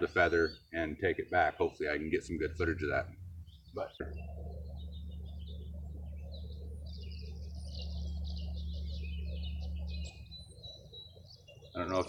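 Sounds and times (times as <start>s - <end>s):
steady low hum: 0.0s - 12.0s
swallows twittering: 0.0s - 12.0s.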